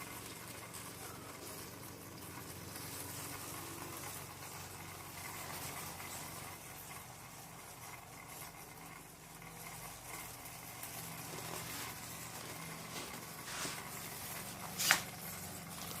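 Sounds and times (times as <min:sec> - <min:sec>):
stepper motors humming: 0:00.0 - 0:16.0.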